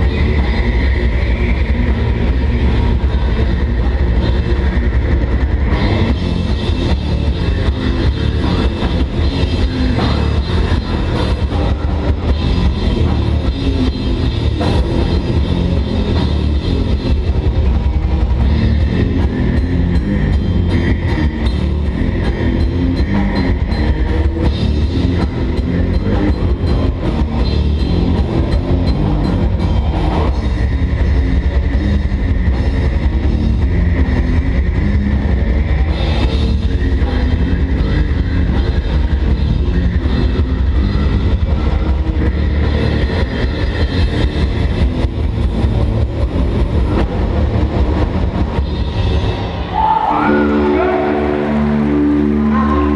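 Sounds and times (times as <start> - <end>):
fast dense drumming: 0.0 - 51.5
metal band playing live: 0.0 - 52.9.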